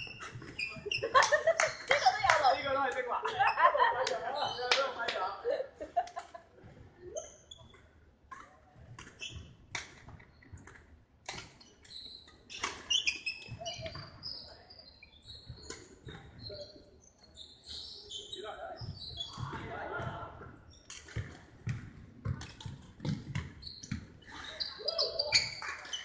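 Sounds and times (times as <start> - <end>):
sneakers squeaking on wooden floor: 0.0 - 5.4, 7.0 - 10.8, 11.5 - 26.0.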